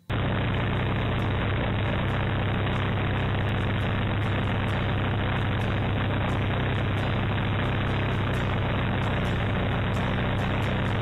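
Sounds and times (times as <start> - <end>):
model plane engine running: 0.0 - 11.0.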